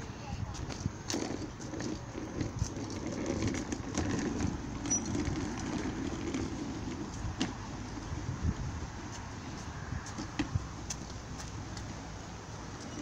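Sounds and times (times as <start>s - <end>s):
trolley wheels rolling on concrete: 0.0s - 13.0s.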